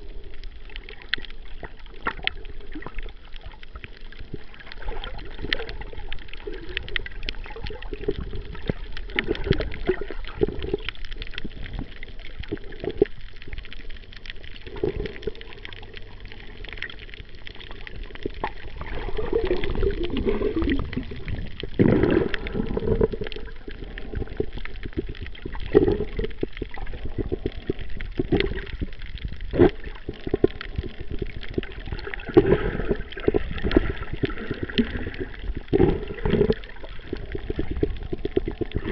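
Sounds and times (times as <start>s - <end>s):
water gurgling underwater: 0.0s - 38.9s.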